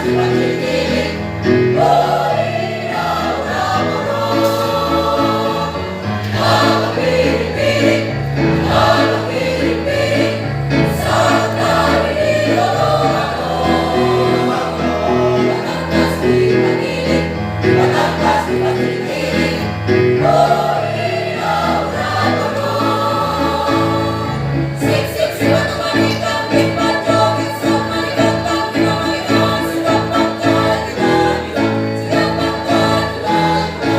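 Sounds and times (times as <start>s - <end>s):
choir singing: 0.0s - 33.9s
instrumental accompaniment with bass: 0.0s - 33.9s.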